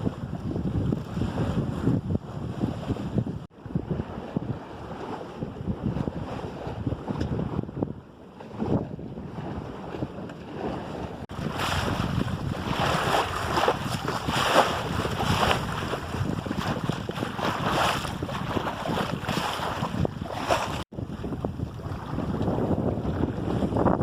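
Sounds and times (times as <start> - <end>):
water splashing along boat hull: 0.0 - 24.0
wind buffeting microphone: 0.0 - 24.0.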